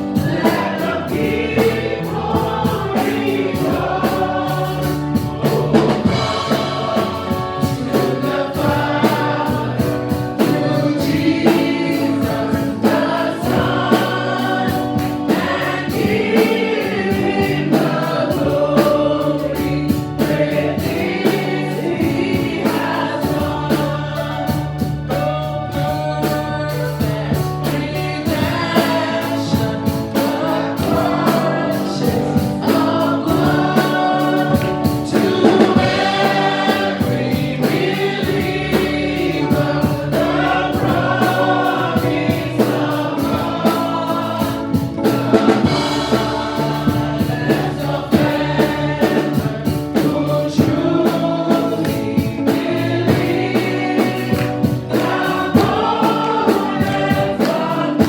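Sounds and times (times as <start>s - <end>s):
band with bass and drums: 0.0s - 58.0s
choir singing: 0.0s - 58.0s.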